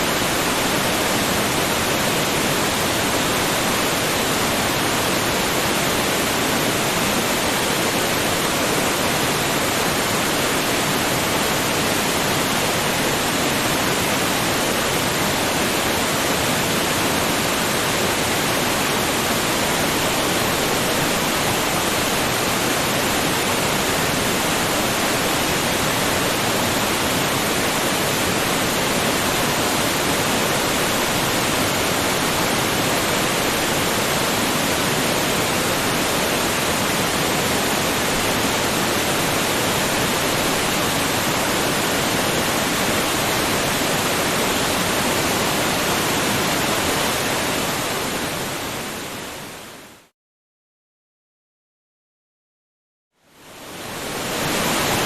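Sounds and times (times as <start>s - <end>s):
waterfall rushing: 0.0s - 49.6s, 53.5s - 55.0s.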